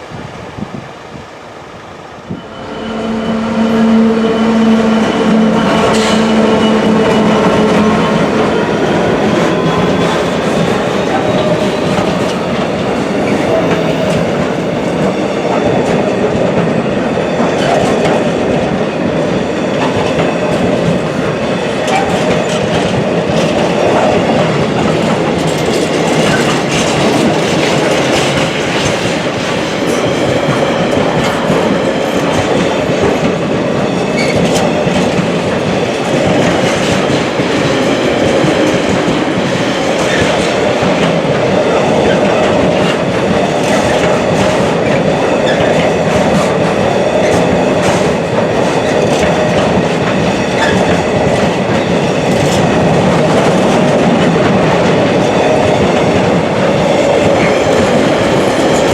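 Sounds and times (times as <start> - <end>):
train rumble: 0.0 - 58.9.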